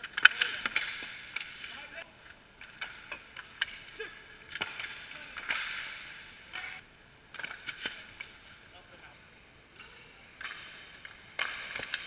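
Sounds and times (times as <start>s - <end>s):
skates scraping: 0.0s - 6.8s, 7.4s - 8.7s, 10.3s - 12.0s
hockey sticks and puck clacking: 0.0s - 8.8s, 9.7s - 12.0s.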